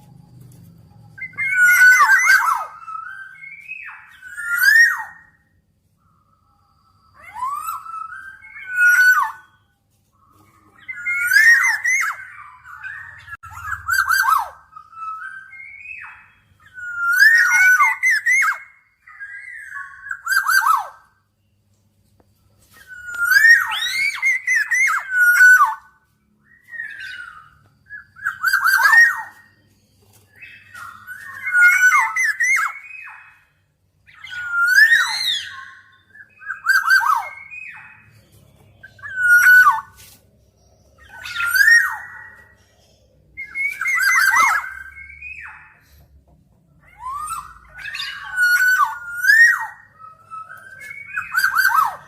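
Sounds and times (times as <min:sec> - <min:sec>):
bird singing fluty whistles: 0:00.0 - 0:21.6, 0:22.6 - 0:46.2, 0:46.8 - 0:52.0.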